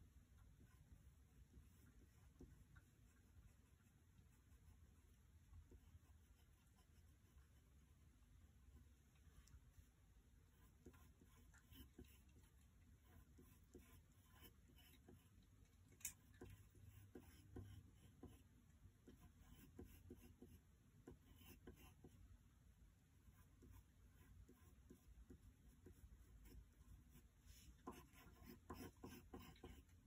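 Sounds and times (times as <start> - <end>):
pencil scratching on paper: 0.5 - 8.0, 8.7 - 15.4, 16.1 - 22.2, 23.2 - 30.0.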